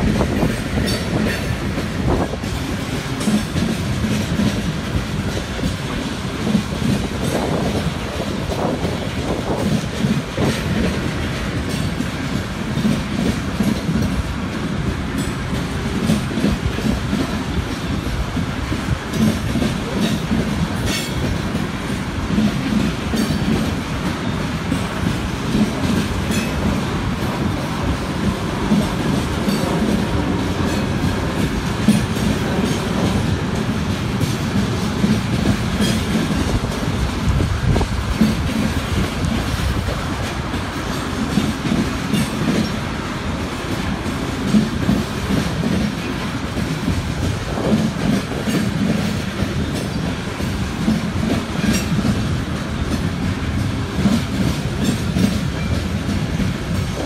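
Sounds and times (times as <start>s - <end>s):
steel wheels rumbling on rail: 0.0s - 57.0s
wheels clacking over rail joints: 0.0s - 57.0s.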